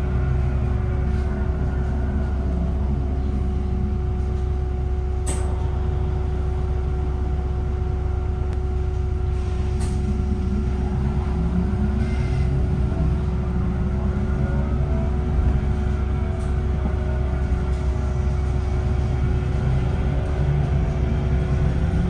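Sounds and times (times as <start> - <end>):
bus whining tone: 0.0 - 22.0
low rumble: 0.0 - 22.0.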